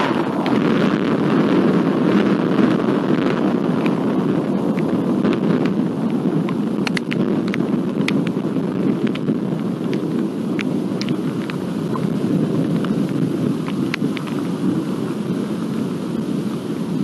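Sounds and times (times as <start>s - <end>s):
raindrops ticking: 0.0s - 14.8s
thunder rumble: 0.0s - 17.0s.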